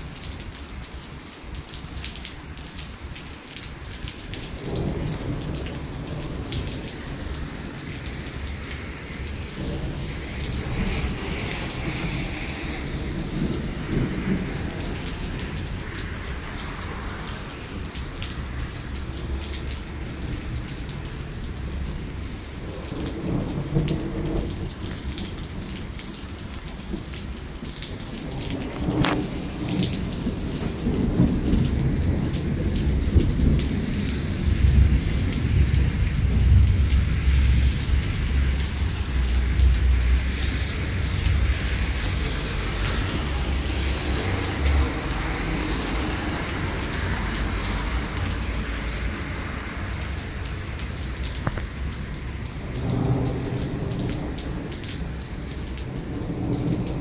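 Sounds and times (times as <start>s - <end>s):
heavy rain on pavement: 0.0s - 57.0s
thunder rumbling: 4.2s - 57.0s.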